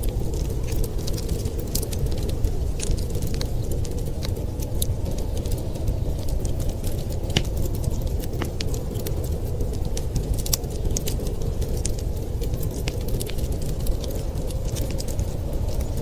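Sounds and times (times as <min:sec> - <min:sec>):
storm wind rumbling: 0:00.0 - 0:16.0
wood fire crackling and popping: 0:00.0 - 0:16.0.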